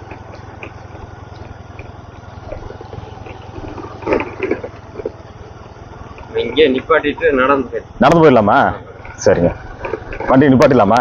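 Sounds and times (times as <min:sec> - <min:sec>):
motorcycle engine running: 0:00.0 - 0:11.0
rough engine sound: 0:00.0 - 0:11.0.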